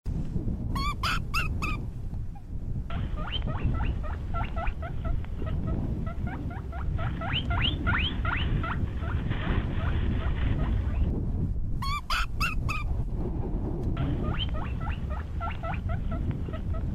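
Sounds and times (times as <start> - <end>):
low rumbling noise: 0.1 - 16.9
rabbit squeaking: 0.8 - 11.1, 11.8 - 12.9, 14.0 - 16.9.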